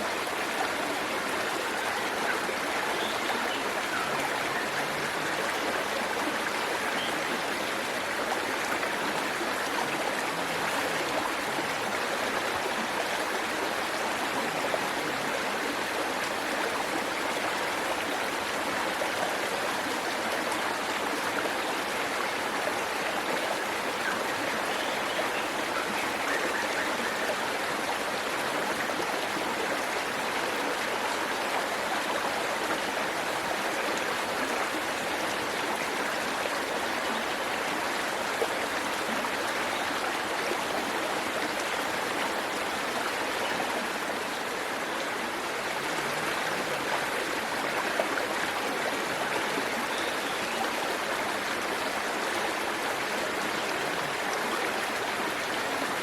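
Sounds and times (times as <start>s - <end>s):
waterfall rushing and splashing: 0.0s - 56.0s.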